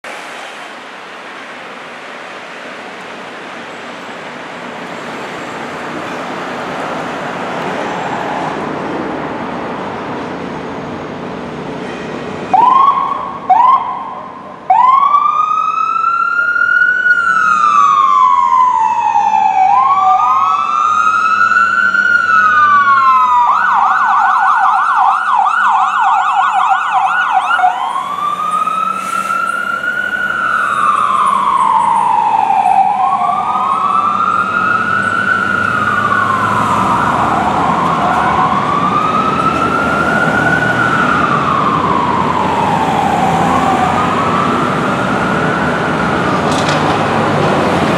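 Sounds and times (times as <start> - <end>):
fire engine siren: 4.5 - 11.6, 12.3 - 47.9.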